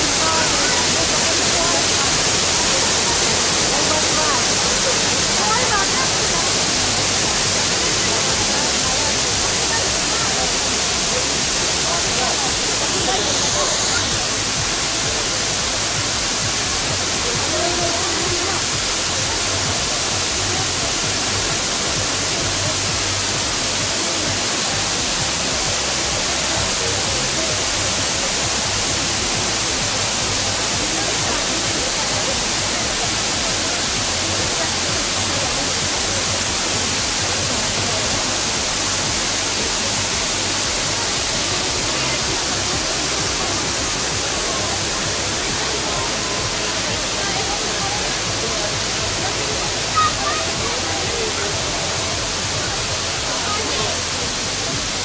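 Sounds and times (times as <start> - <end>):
waterfall hiss: 0.0 - 55.0.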